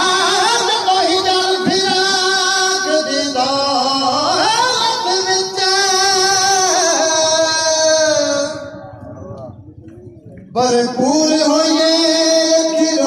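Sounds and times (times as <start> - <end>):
man singing into a microphone: 0.0 - 8.9, 10.5 - 13.0.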